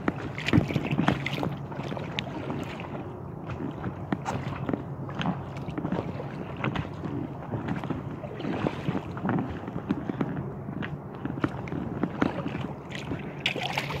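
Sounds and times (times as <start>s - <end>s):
waves slapping against kayak hull: 0.0s - 14.0s
wind noise on microphone: 0.0s - 14.0s.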